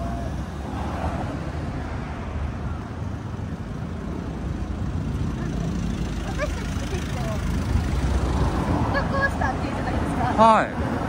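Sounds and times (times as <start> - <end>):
cars passing close by: 0.0 - 11.0
low traffic rumble: 0.0 - 11.0.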